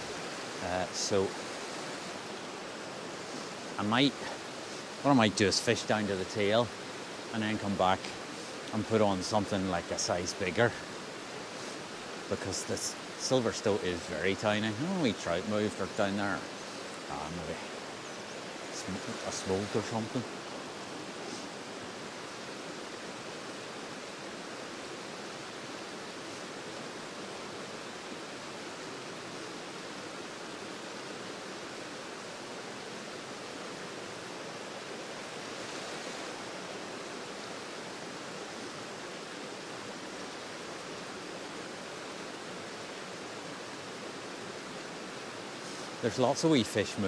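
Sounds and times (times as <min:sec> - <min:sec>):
river rushing over rocks: 0:00.0 - 0:47.0.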